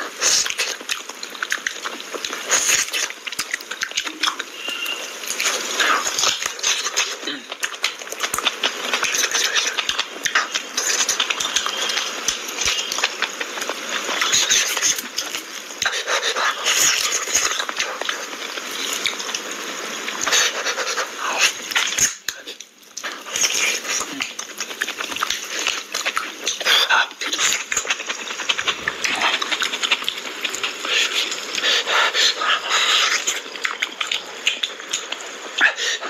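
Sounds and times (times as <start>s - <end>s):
man chewing and lip-smacking: 0.0s - 19.5s, 20.1s - 36.0s.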